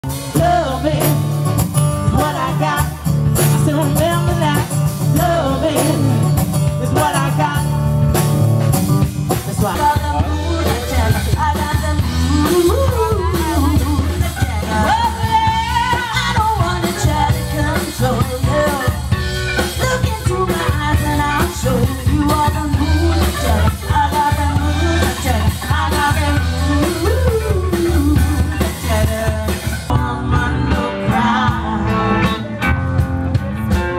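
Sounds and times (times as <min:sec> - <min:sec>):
woman singing: 0:00.0 - 0:01.3, 0:02.0 - 0:07.7, 0:09.4 - 0:32.6
bass guitar: 0:00.0 - 0:33.9
drum kit: 0:00.0 - 0:33.9
electric guitar: 0:00.0 - 0:33.9.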